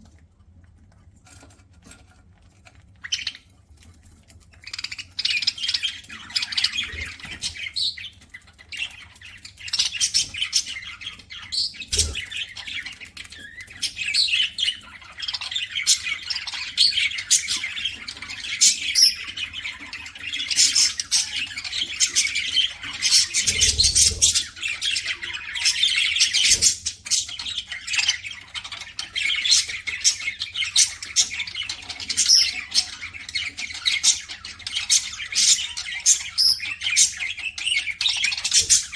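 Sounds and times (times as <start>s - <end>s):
budgerigars chattering and squawking: 3.0s - 3.5s, 4.5s - 38.9s.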